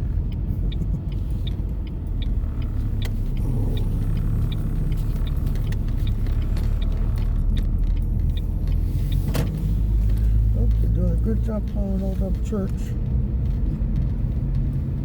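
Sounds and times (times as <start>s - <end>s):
road rumble inside car: 0.0s - 15.0s
turn signal ticking: 0.0s - 15.0s.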